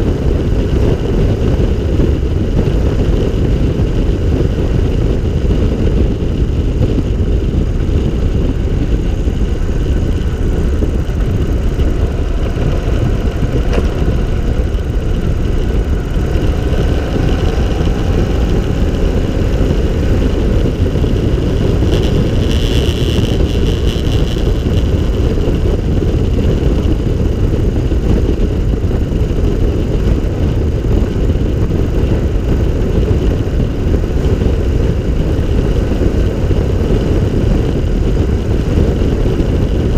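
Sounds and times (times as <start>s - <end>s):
three-wheeler engine running: 0.0s - 39.9s
wind rumble on microphone: 0.0s - 39.9s.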